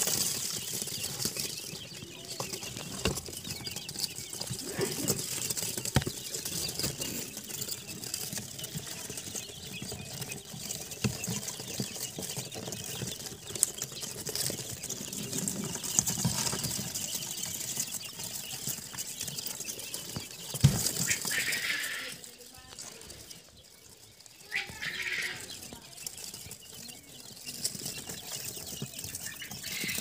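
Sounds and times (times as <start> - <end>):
chicks scratching and pecking on paper: 0.0 - 30.0.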